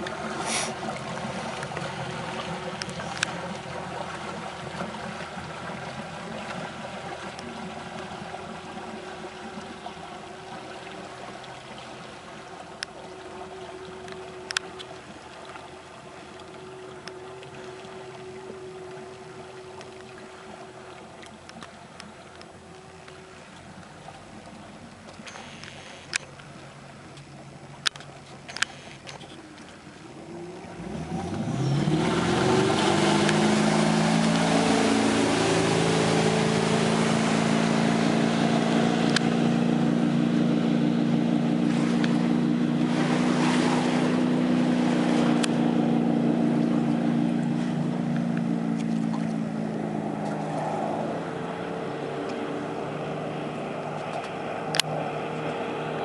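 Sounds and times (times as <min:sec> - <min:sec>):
boat engine accelerating: 0:00.0 - 0:56.0
water and wind rushing past hull: 0:00.0 - 0:56.0.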